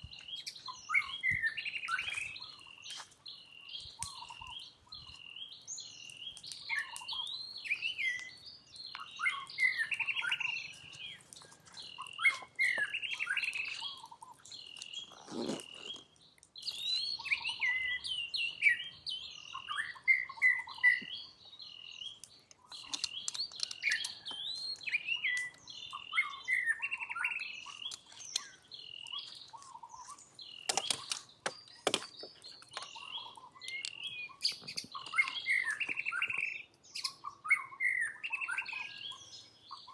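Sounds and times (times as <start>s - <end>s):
high-pitched chirping calls: 0.0s - 39.9s.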